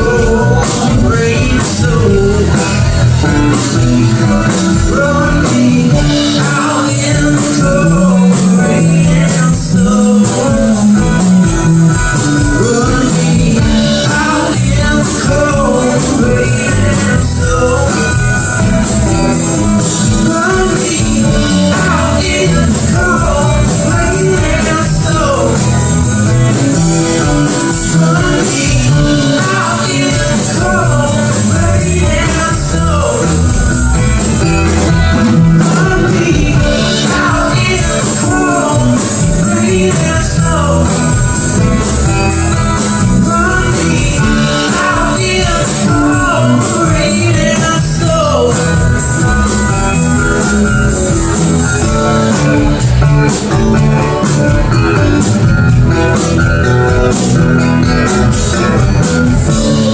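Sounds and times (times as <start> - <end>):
bass guitar: 0.0 - 59.9
bending lead guitar lines: 0.0 - 59.9
drum kit beat: 0.0 - 59.9.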